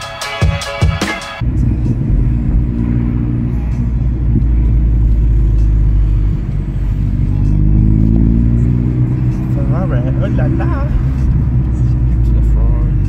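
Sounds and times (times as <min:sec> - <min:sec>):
car engine and road rumble: 0:01.2 - 0:13.0.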